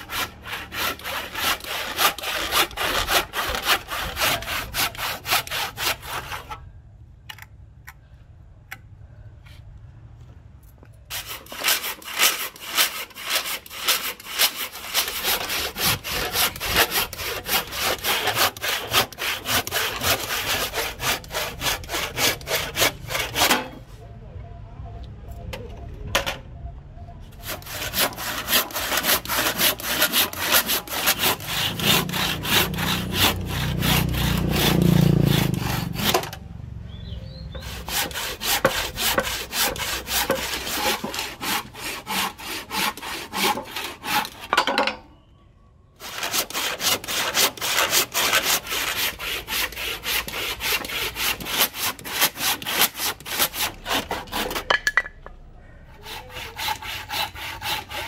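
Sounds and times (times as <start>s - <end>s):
hand saw cutting hardwood: 0.0s - 6.6s, 11.1s - 23.8s, 27.4s - 36.4s, 37.3s - 44.7s, 46.0s - 54.9s, 55.9s - 58.0s.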